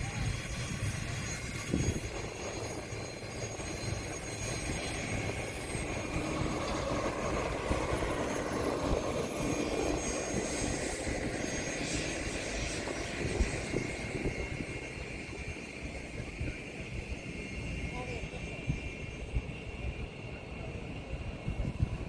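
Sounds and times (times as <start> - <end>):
aircraft engine roar: 0.0 - 22.0.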